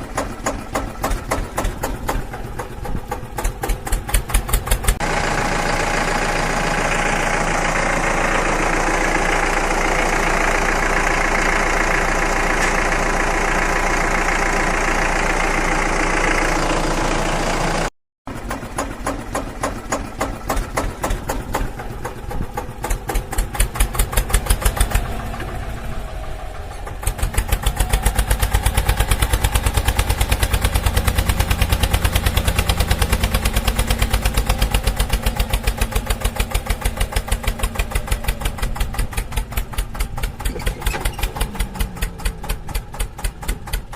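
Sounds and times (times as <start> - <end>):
tractor engine chugging: 0.0 - 43.9.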